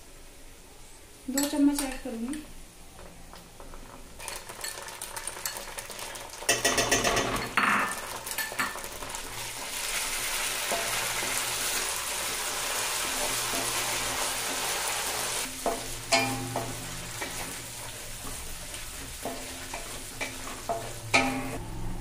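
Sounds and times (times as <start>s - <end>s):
oil sizzling: 1.2s - 22.0s.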